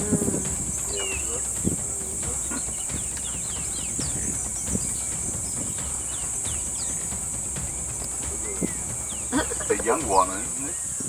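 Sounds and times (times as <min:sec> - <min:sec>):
low rumble: 0:00.0 - 0:10.6
bird chirps: 0:00.0 - 0:11.0
high-pitched insect drone: 0:00.0 - 0:11.0.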